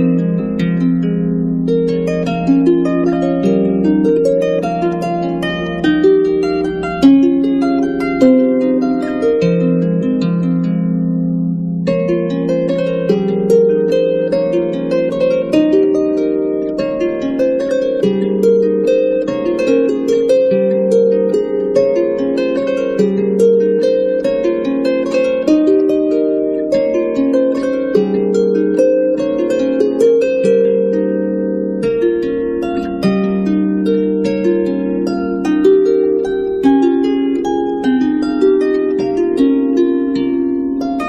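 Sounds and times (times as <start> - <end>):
plucked harp melody: 0.0 - 41.0.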